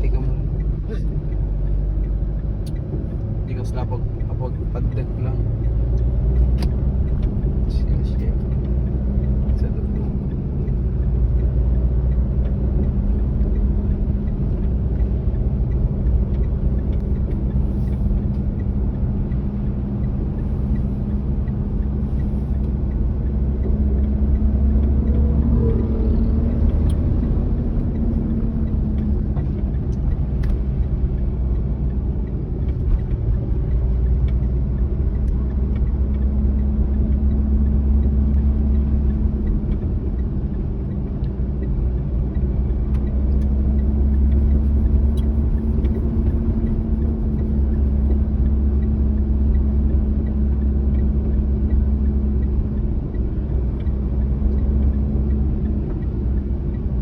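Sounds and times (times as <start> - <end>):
car engine humming: 0.0 - 57.0.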